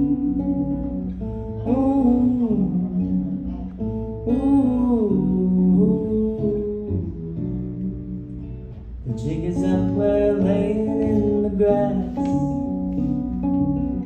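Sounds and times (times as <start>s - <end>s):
person singing wordless phrases: 0.0s - 7.8s, 9.1s - 13.0s
acoustic guitar: 0.0s - 14.0s.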